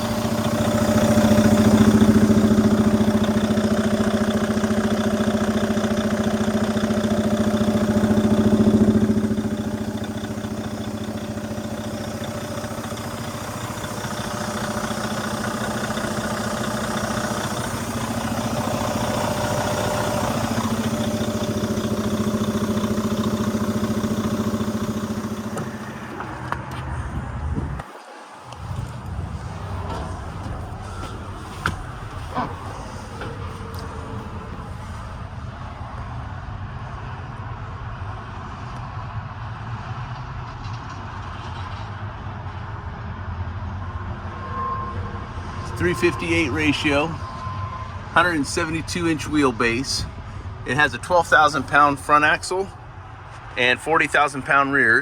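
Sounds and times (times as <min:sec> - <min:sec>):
diesel truck engine idling: 0:00.0 - 0:27.8, 0:28.5 - 0:36.6, 0:45.5 - 0:55.0.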